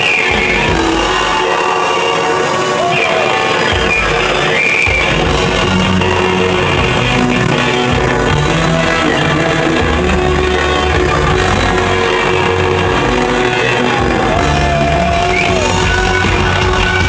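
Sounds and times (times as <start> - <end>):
electric guitar: 0.0 - 17.0
rock band playing live: 0.0 - 17.0.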